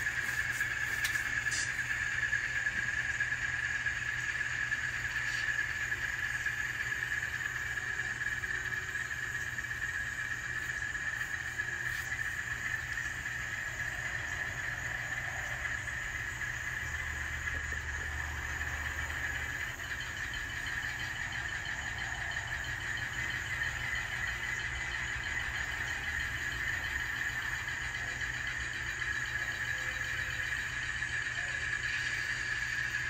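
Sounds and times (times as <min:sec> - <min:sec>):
diesel engine running sound: 0:00.0 - 0:33.0
high-pitched whine: 0:00.0 - 0:33.0.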